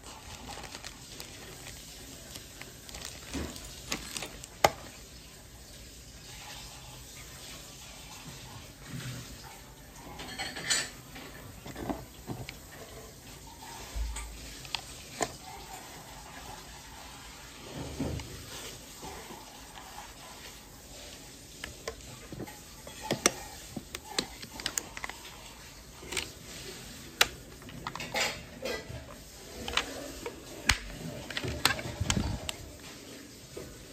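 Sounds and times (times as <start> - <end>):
foam and plastic rustling: 0.0 - 33.9.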